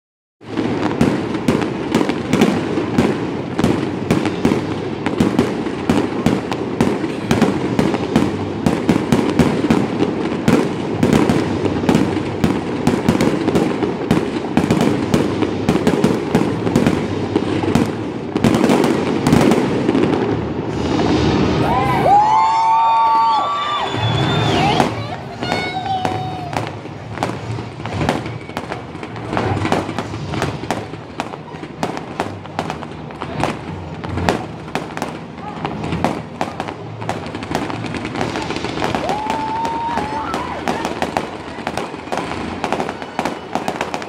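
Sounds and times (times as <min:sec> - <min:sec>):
fireworks bursting with loud bangs: 0:00.4 - 0:44.0.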